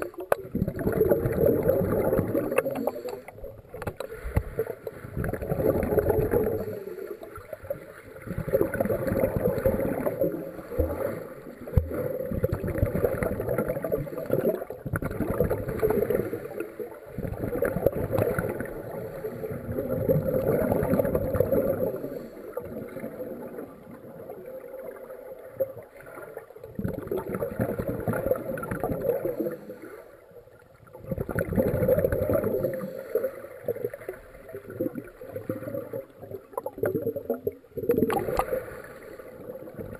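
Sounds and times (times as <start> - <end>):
muffled underwater rushing and bubbling: 0.0 - 39.9.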